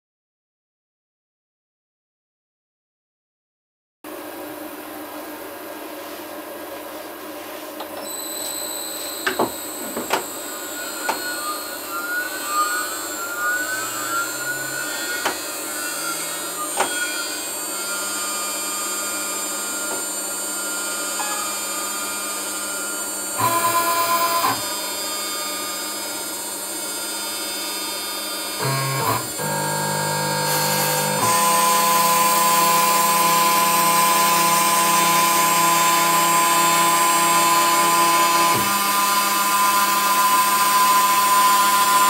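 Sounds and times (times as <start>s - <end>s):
machine noise: 8.0s - 42.0s
router spindle whine: 8.0s - 42.0s.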